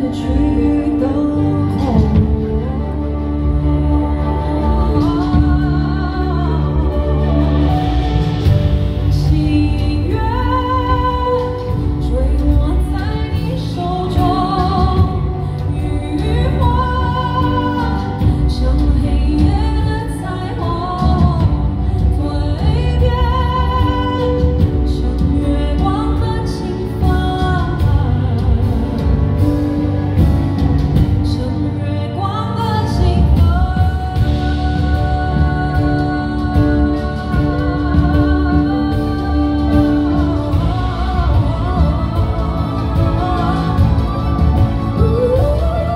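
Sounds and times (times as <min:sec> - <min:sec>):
drums: 0:00.0 - 0:45.9
sliding melody with vibrato: 0:00.0 - 0:45.9.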